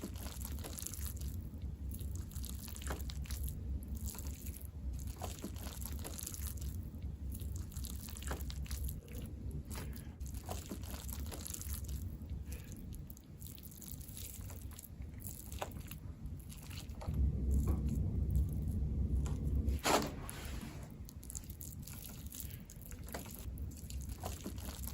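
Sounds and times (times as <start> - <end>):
person chewing food: 0.0 - 19.7, 20.9 - 24.9.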